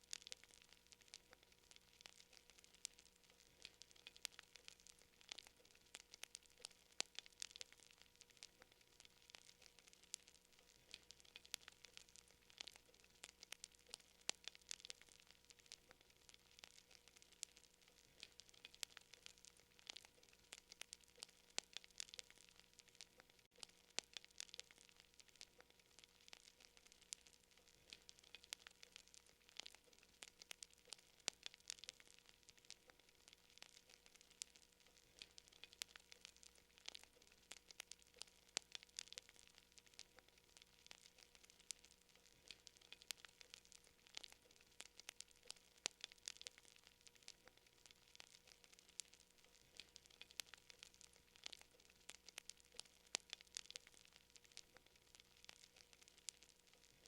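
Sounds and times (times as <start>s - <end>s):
faint steady hum: 0.0s - 57.0s
fire crackling: 0.0s - 57.0s.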